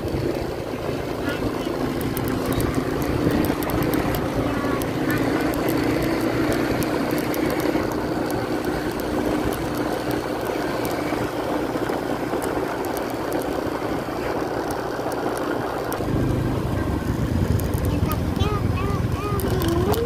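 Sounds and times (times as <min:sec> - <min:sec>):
motorcycle engine humming: 0:00.0 - 0:20.0
wind and road noise: 0:00.0 - 0:20.0.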